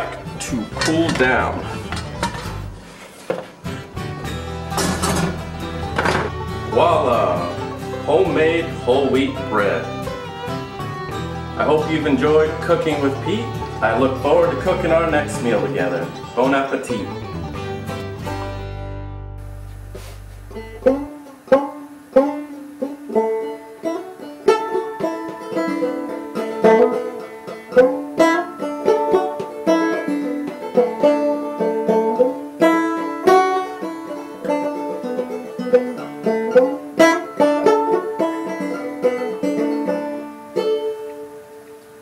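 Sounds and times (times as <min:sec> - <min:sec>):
banjo tune with picked notes: 0:00.0 - 0:03.0, 0:03.6 - 0:42.0.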